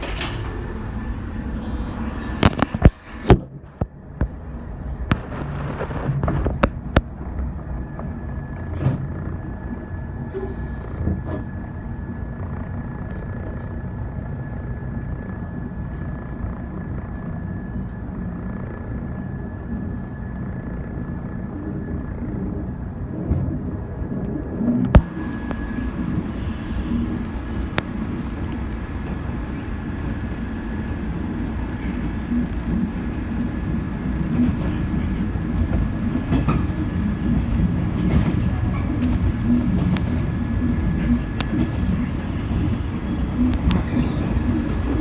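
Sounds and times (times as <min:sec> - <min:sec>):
train running rumble: 0:00.0 - 0:45.0.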